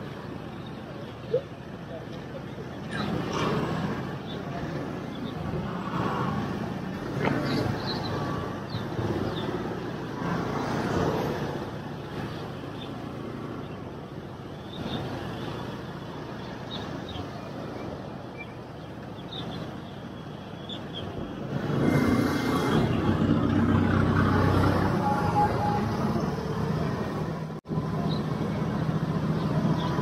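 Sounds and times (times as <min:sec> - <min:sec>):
road noise: 0:00.0 - 0:30.0
vehicles passing: 0:00.0 - 0:30.0.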